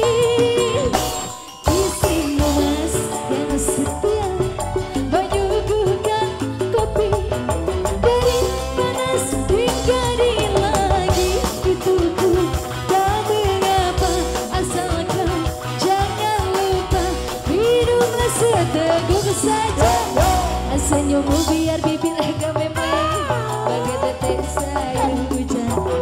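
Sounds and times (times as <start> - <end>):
electric guitars: 0.0 - 26.0
woman singing: 0.0 - 26.0
pulsing bass: 1.7 - 26.0.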